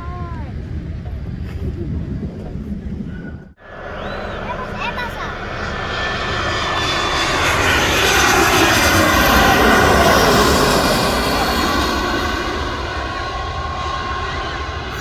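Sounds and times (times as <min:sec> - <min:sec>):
jet airliner passing low: 0:00.0 - 0:15.0.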